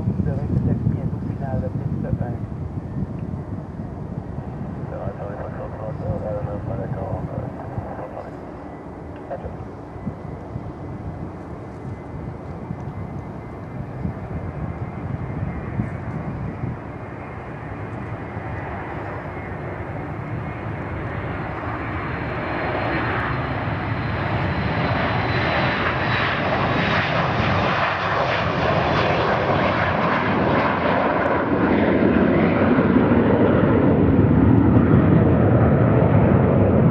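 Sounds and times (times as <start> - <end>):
high jet whine: 0.0 - 36.9
jet engines roaring at takeoff: 0.0 - 36.9.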